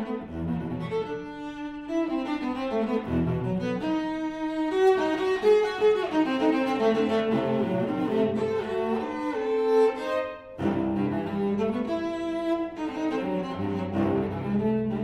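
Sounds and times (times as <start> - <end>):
bowed cello playing: 0.0 - 15.0.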